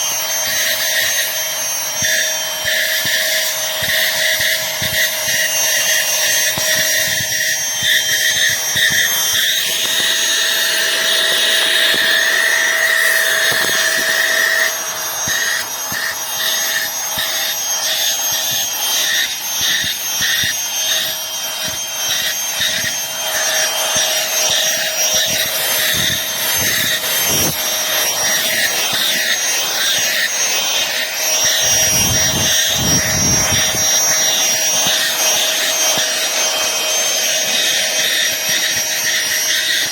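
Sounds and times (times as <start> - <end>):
handheld vacuum cleaner running: 0.0 - 39.9.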